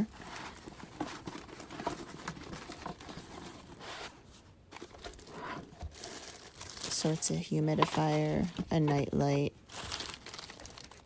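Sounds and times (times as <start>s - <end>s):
packaging rustling: 0.0s - 9.0s, 9.6s - 11.0s.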